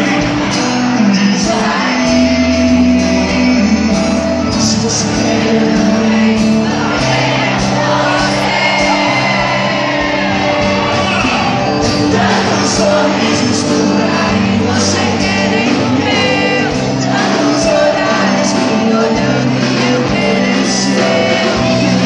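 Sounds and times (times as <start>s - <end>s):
man singing into a microphone: 0.0s - 9.2s, 11.2s - 22.0s
acoustic guitar: 0.0s - 22.0s
drums: 0.0s - 22.0s.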